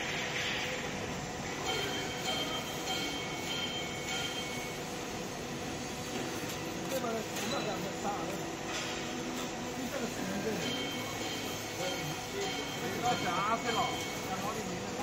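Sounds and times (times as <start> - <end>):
factory machinery noise: 0.0 - 15.0.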